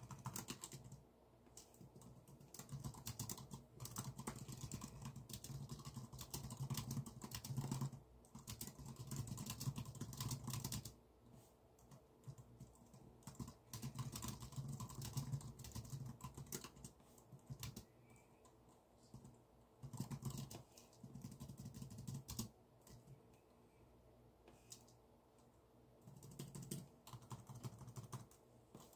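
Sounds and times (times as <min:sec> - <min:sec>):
typing on keyboard: 0:00.0 - 0:11.0, 0:11.8 - 0:23.2, 0:26.0 - 0:28.4.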